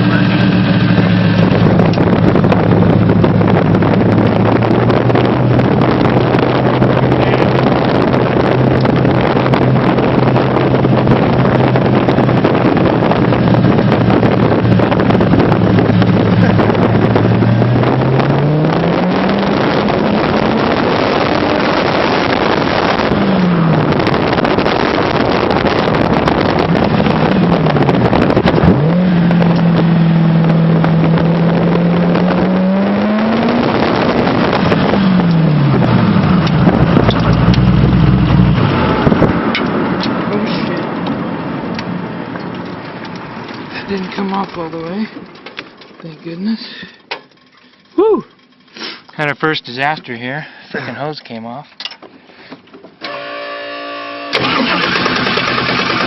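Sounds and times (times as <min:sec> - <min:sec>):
car engine accelerating: 0:00.0 - 0:50.2, 0:53.0 - 0:56.0
wind and road noise: 0:00.0 - 0:56.0.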